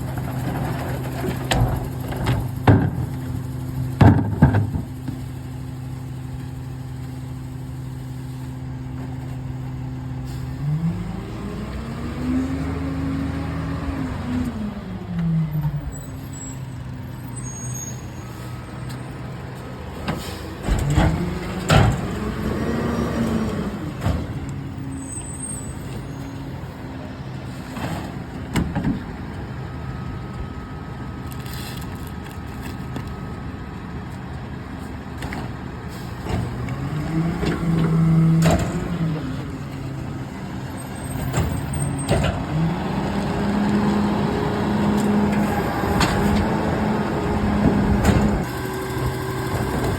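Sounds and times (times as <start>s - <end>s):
garbage truck engine revving: 0.0s - 18.7s, 19.8s - 30.0s, 35.5s - 49.9s.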